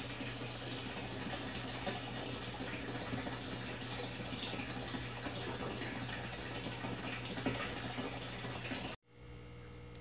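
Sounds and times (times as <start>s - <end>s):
aquarium water splashing: 0.0s - 9.0s.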